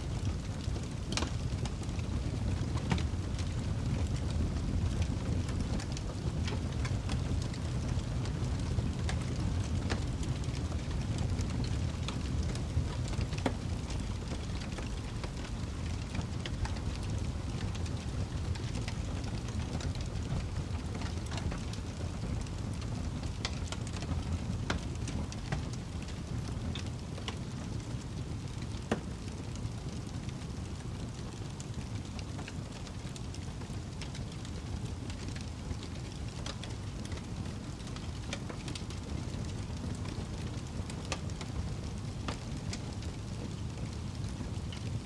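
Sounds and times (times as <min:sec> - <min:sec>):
fire rumbling: 0:00.0 - 0:45.0
fire pops and snaps: 0:00.1 - 0:45.0.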